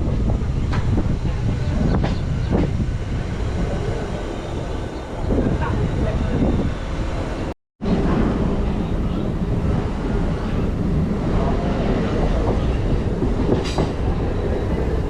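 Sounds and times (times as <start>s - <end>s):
electric train rumbling: 0.0s - 15.0s
wheel clatter on rail joints: 0.0s - 15.0s.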